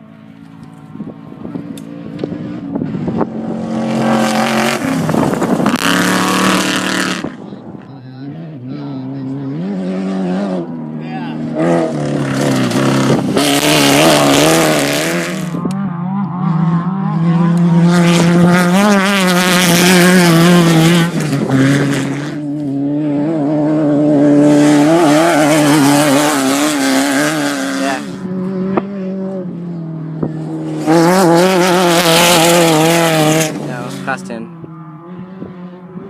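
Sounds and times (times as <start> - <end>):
off-road vehicles driving past: 0.0 - 36.0.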